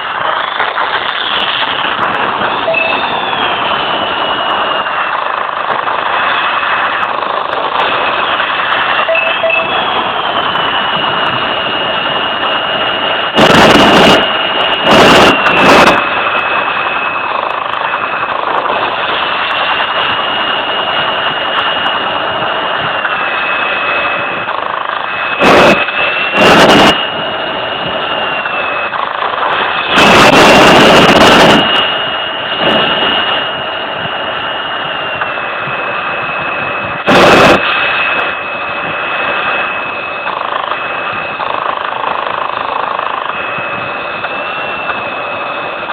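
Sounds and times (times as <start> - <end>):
jet engine whine: 0.0 - 45.9
loud bursts of rushing noise: 0.0 - 45.9.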